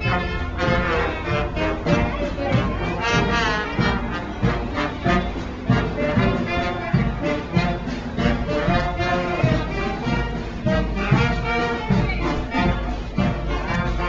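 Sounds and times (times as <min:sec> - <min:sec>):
marching brass band playing: 0:00.0 - 0:14.0
steady drum beat: 0:00.0 - 0:14.0.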